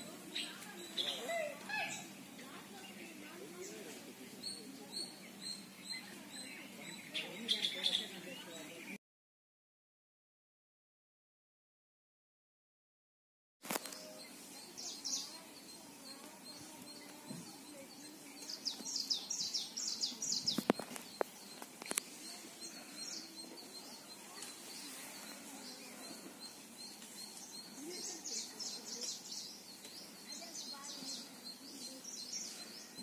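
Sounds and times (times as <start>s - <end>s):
faint outdoor background: 0.0s - 9.0s, 13.6s - 33.0s
small birds chirping: 0.0s - 9.0s, 13.6s - 33.0s.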